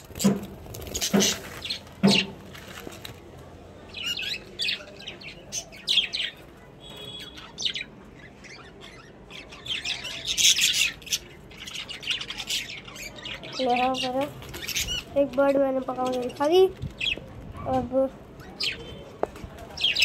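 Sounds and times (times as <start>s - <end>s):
budgerigars chirping and squawking: 0.0s - 2.4s, 3.9s - 17.8s.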